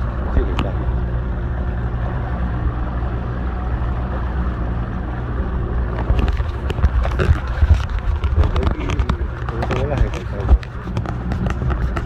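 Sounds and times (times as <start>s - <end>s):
outboard motor running: 0.0s - 12.0s
water rushing: 0.0s - 12.0s
wind: 0.0s - 12.0s.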